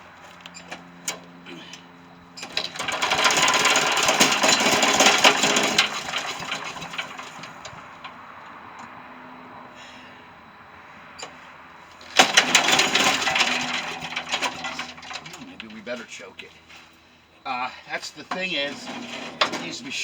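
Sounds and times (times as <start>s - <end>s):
engine cranking and sputtering: 0.0s - 20.0s.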